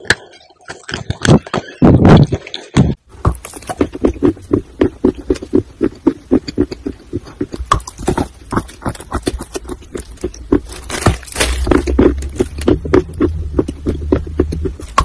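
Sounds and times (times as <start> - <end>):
clay being chewed: 0.7 - 15.0.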